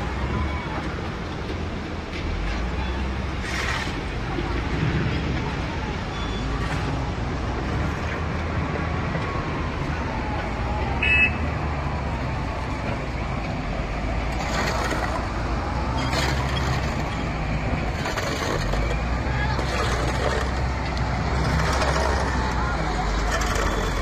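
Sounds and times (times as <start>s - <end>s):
outdoor noise: 0.0s - 24.0s
vehicle engine rumble: 0.0s - 24.0s.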